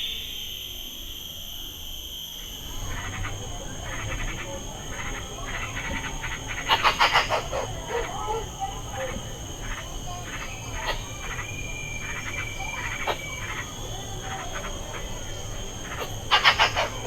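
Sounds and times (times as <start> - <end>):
high insect drone: 0.0 - 17.0
animal chattering calls: 2.8 - 17.0.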